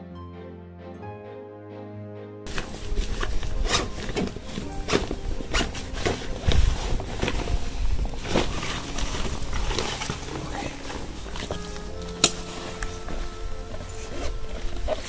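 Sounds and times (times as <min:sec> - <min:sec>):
faint background music: 0:00.0 - 0:15.0
backpack rustling and knocking: 0:02.5 - 0:15.0.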